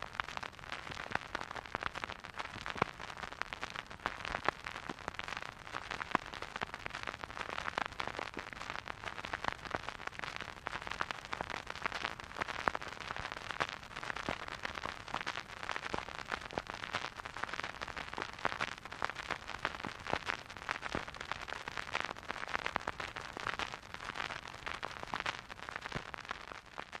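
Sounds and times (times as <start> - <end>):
vinyl record crackle and hiss: 0.0 - 27.0.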